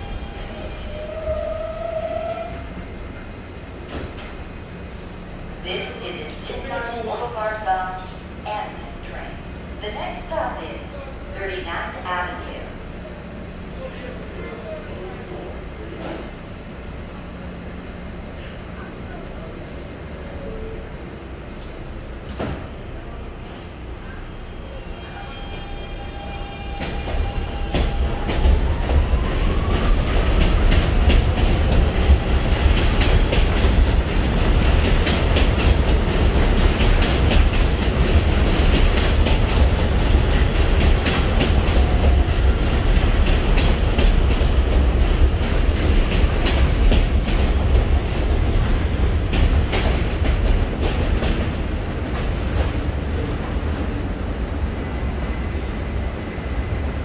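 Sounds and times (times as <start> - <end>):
heavy train rumble: 0.0 - 57.0
subway train motors whining: 0.0 - 57.0.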